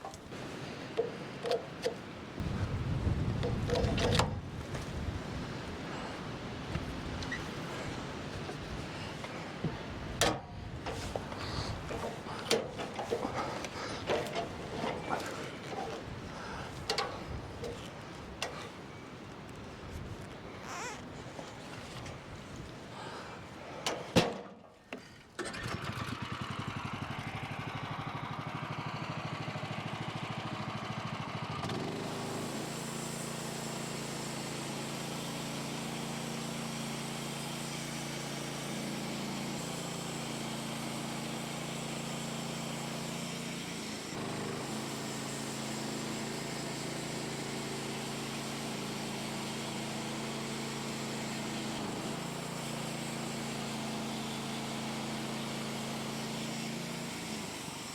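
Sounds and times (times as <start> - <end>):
small gas engine running: 5.2 - 19.1, 25.2 - 57.9.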